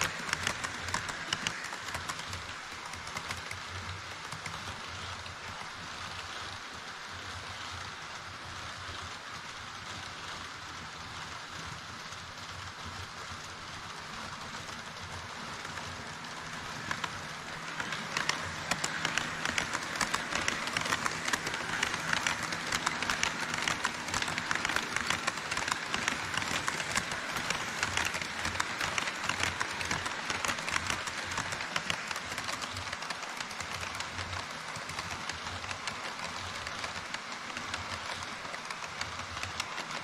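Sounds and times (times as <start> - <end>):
model train wheels clicking: 0.0 - 40.0.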